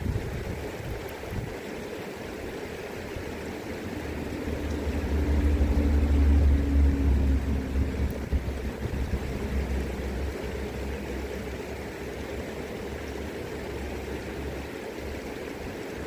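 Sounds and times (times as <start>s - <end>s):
river water running: 0.0s - 16.0s
engine humming: 2.1s - 16.0s.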